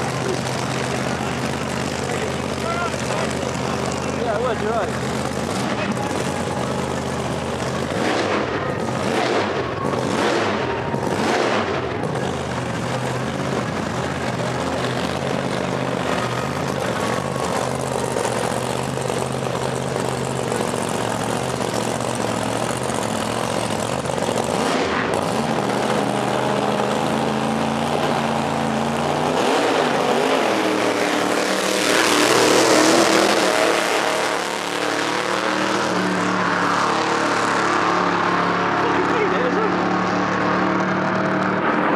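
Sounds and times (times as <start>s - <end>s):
drag car engine accelerating: 0.0s - 41.9s.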